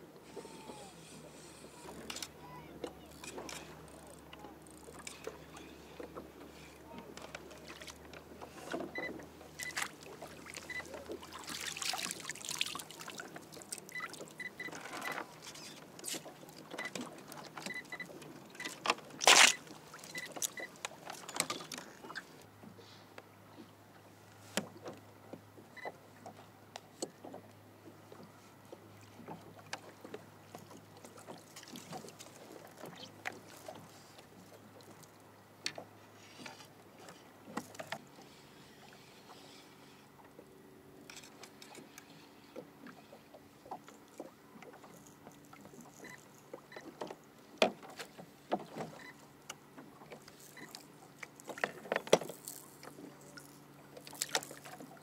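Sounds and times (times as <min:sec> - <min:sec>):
water sloshing around kayak: 0:00.0 - 0:55.0.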